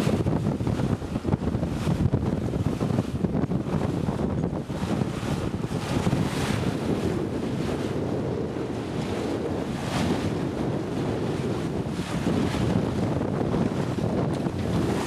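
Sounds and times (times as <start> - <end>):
water splashing along hull: 0.0 - 15.0
wind buffeting microphone: 0.0 - 15.0.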